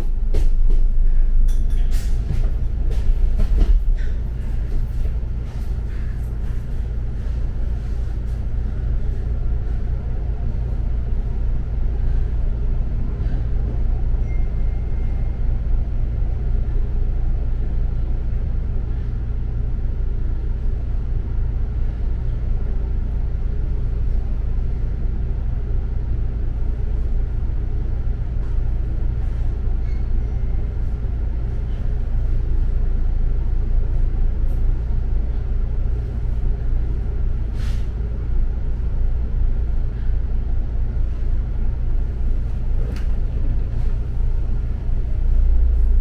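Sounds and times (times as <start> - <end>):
bus engine and road noise: 0.0 - 46.0.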